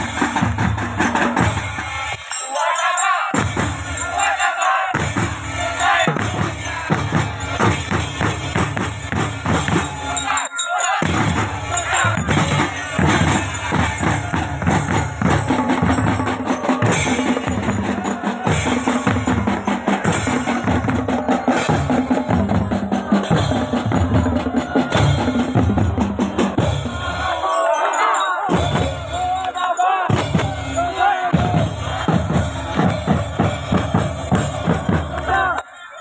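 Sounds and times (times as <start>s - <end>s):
music with steady drum beat: 0.0s - 2.4s, 3.2s - 10.4s, 11.0s - 27.5s, 28.5s - 35.6s.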